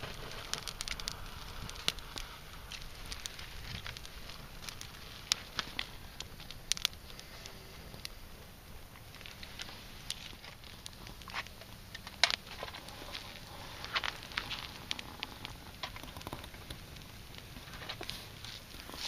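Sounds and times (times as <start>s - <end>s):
fire popping and snapping: 0.0s - 19.0s
twig fire crackling: 0.0s - 19.0s.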